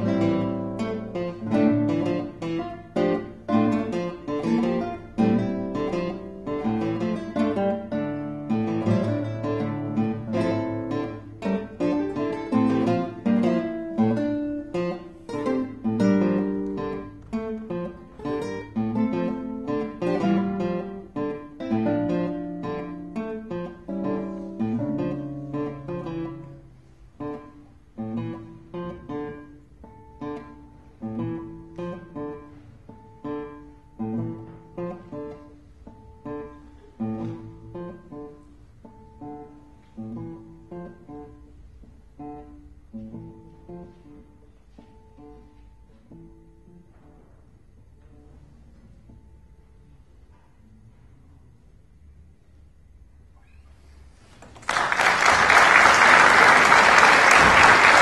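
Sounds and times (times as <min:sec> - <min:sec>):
classical guitar duo: 0:00.0 - 0:58.0.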